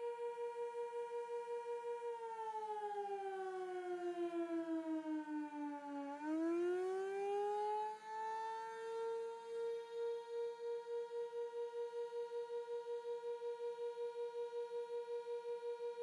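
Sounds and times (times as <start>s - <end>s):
wailing warning siren: 0.0s - 13.2s.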